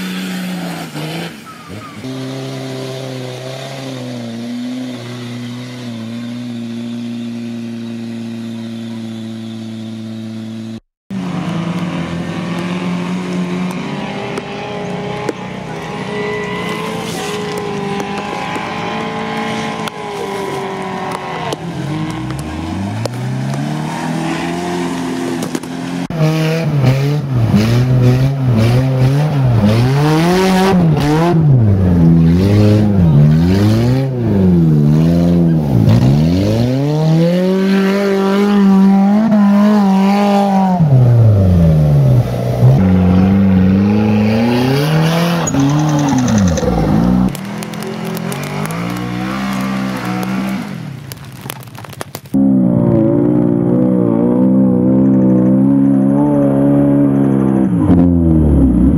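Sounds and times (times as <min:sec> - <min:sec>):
off-road engines revving: 0:00.0 - 0:58.9.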